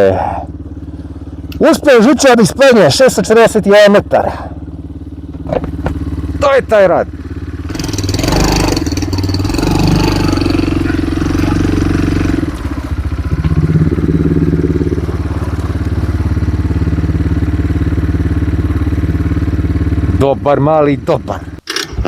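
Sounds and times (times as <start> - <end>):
small motorcycle engine running: 0.0 - 22.0.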